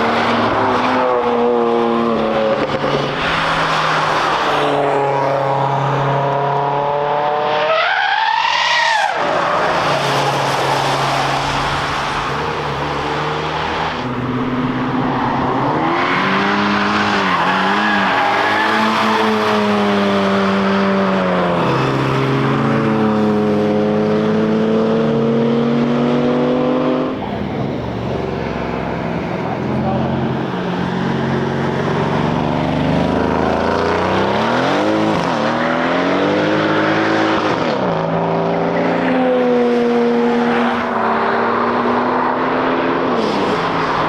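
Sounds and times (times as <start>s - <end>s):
race cars driving past revving: 0.0s - 44.0s.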